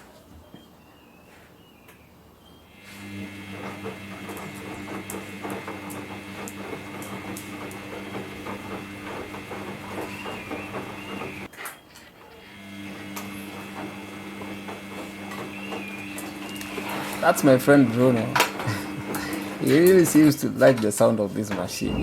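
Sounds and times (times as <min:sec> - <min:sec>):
washing machine motor hum: 0:02.7 - 0:11.5, 0:12.4 - 0:22.0.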